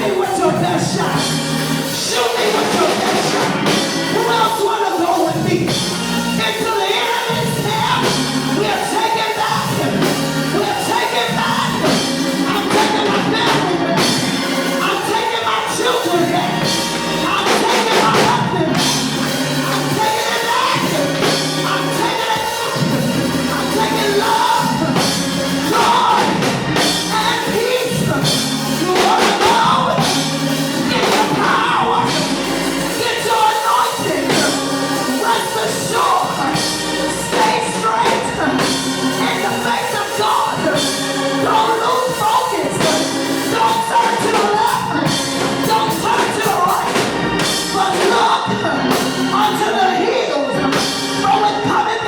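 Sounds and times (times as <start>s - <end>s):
person singing: 0.0s - 52.0s.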